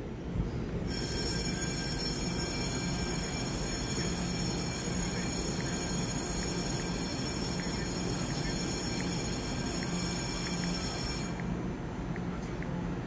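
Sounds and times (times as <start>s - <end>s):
electric train rumbling: 0.0s - 13.0s
thin high tones: 0.9s - 11.6s.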